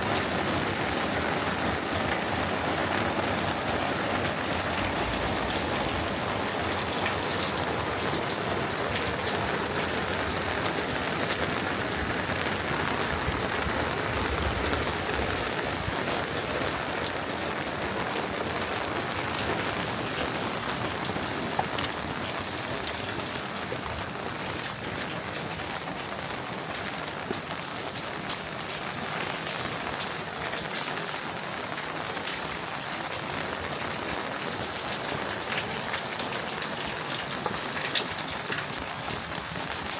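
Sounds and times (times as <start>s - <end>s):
steady rain falling: 0.0s - 39.9s
raindrop ticks: 7.0s - 39.9s.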